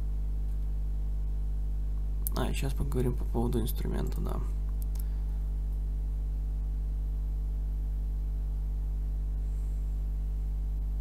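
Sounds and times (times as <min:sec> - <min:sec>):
mains hum: 0:00.0 - 0:11.0.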